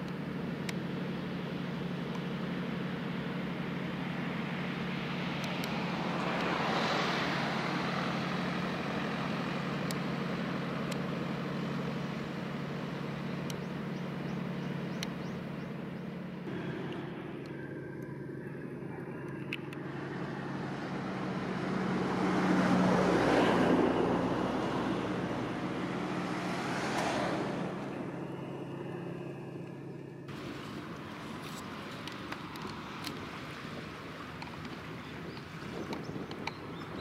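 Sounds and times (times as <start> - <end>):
diesel engine drone: 0.0 - 37.0
passing vehicle noise: 1.0 - 37.0.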